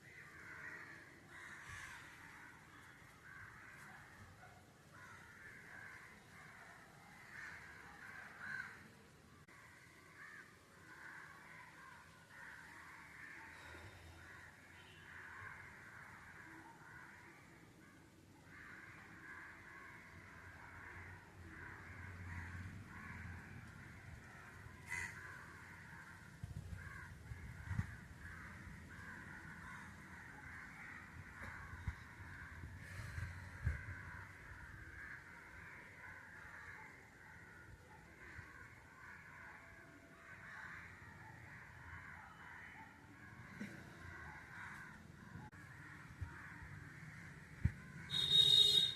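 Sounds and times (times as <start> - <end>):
crows cawing: 0.0 - 48.9.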